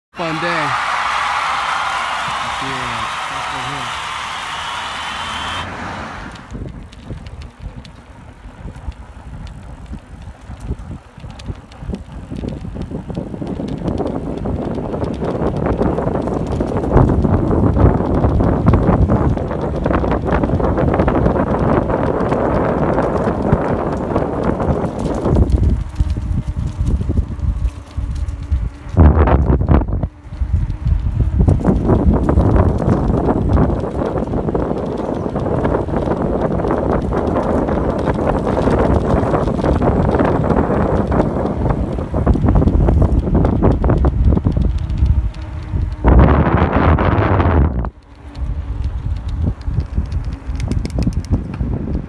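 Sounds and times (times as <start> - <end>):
wind rushing over microphone: 0.1 - 52.0
tyre noise on pavement: 0.2 - 52.0
bicycle clicks and rattles: 6.3 - 52.0
bike clattering over bumps: 6.3 - 52.0.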